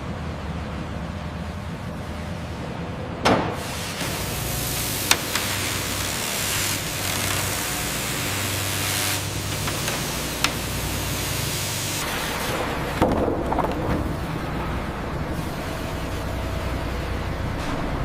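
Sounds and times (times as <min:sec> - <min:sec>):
sawmill machinery rumbling: 0:00.0 - 0:18.0.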